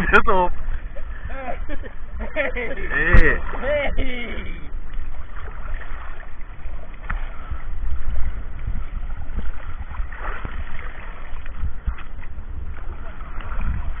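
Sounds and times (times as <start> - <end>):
sea water splashing: 0.0 - 14.0
wind rumbling on microphone: 0.0 - 14.0.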